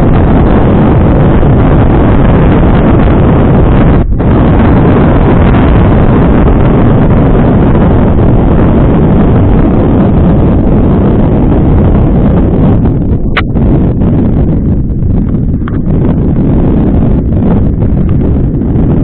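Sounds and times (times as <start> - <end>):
wind rush on microphone: 0.0 - 19.0.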